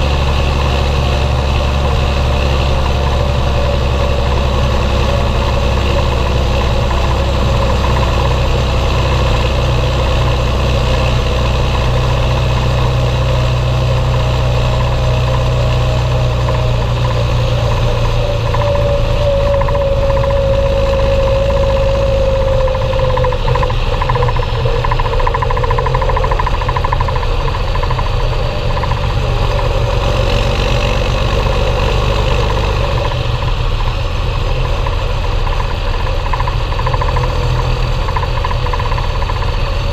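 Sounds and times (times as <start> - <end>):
tractor diesel engine running: 0.0 - 39.9
whine: 0.0 - 39.9.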